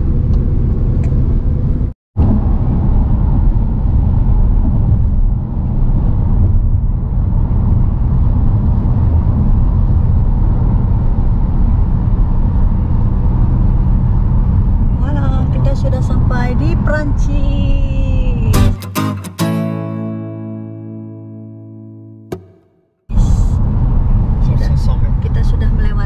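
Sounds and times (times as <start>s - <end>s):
car tyres and engine rumble: 0.0s - 18.5s, 23.1s - 26.0s.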